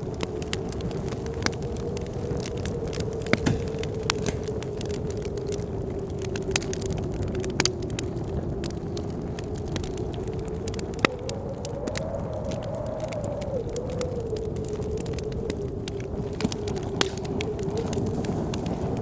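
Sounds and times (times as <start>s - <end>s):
blizzard wind howling: 0.0s - 19.0s
wood fire crackling and popping: 0.0s - 19.0s.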